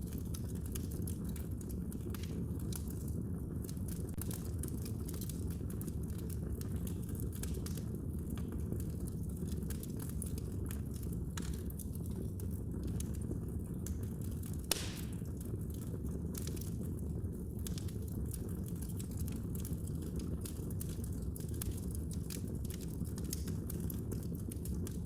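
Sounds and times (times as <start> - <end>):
fire crackling in fireplace: 0.0 - 25.0.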